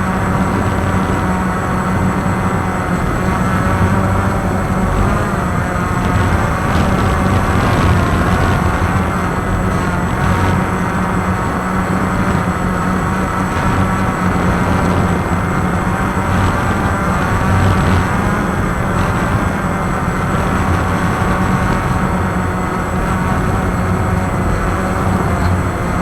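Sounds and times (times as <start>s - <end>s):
quadcopter motors whirring: 0.0s - 26.0s.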